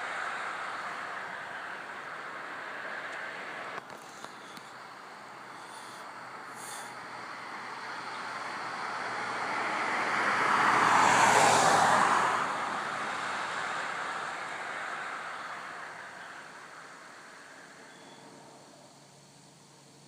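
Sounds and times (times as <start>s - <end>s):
car passing by: 0.0s - 19.2s.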